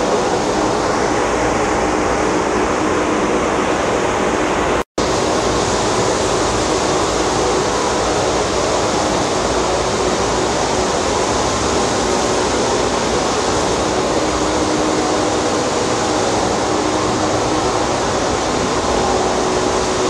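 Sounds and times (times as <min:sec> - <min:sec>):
machinery rushing noise: 0:00.0 - 0:20.0
steady machine hum: 0:00.0 - 0:20.0.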